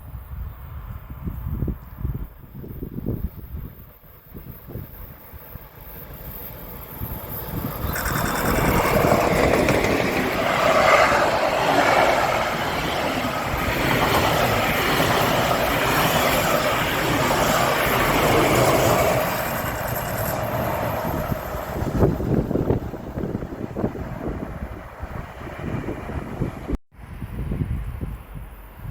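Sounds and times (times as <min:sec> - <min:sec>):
train passing: 0:00.9 - 0:26.8.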